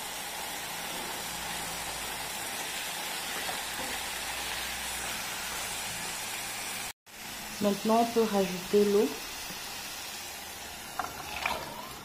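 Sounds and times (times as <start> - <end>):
peas sizzling in hot oil: 0.0 - 12.0.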